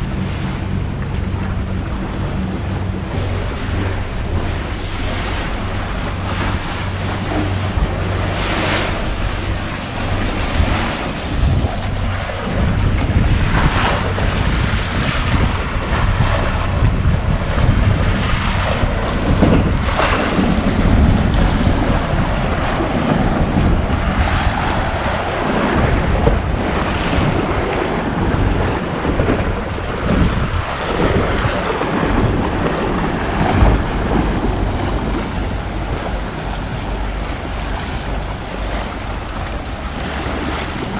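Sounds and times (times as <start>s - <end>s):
waves washing along shore: 0.0s - 40.9s
wind buffeting microphone: 0.0s - 40.9s.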